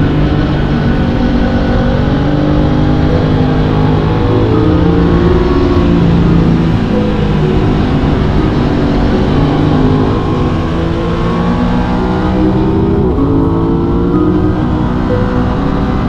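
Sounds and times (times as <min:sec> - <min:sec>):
motorcycle engine accelerating: 0:00.0 - 0:16.0
wind rush on microphone: 0:00.0 - 0:16.0.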